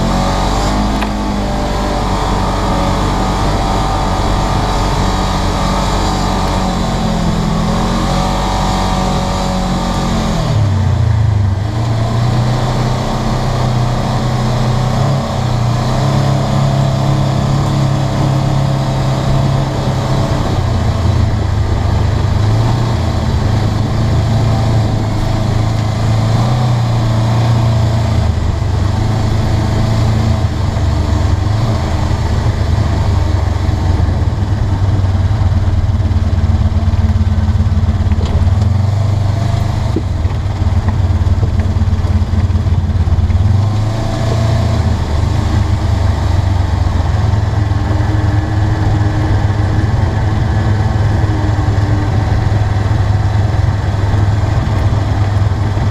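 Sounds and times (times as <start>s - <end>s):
off-road vehicle engine running: 0.0s - 55.9s.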